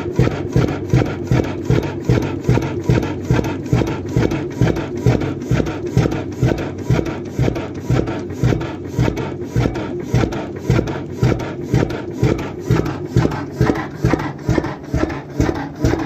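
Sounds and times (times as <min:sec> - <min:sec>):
oil engine running slowly: 0:00.0 - 0:16.0.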